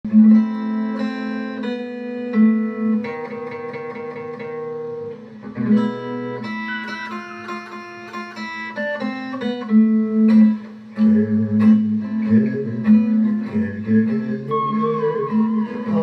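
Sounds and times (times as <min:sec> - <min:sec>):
strummed guitar: 0:00.0 - 0:16.0
steel guitar plucked notes: 0:00.1 - 0:16.0.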